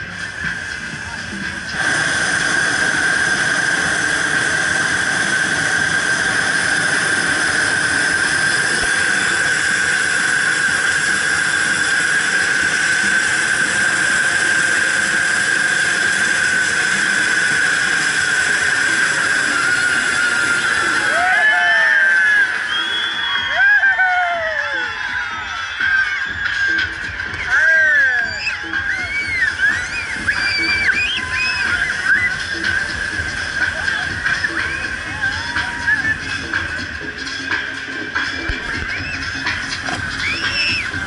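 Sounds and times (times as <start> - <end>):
propane burner roaring: 0.0 - 25.0, 25.8 - 41.0.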